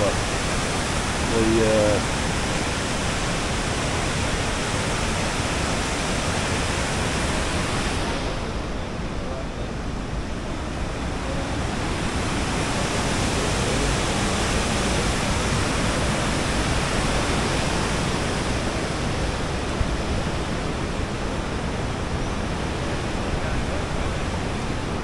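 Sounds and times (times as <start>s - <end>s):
steady broadband rushing noise: 0.0s - 25.0s.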